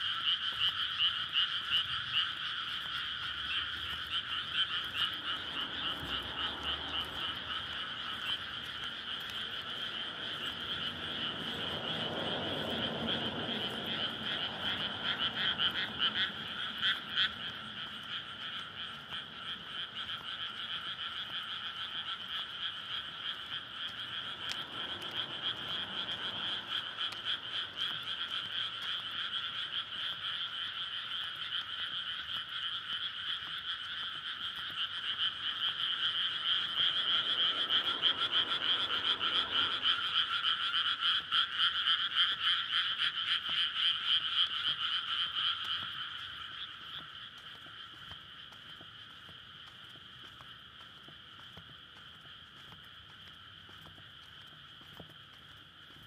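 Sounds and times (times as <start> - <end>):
frog chorus: 0.0 - 56.0.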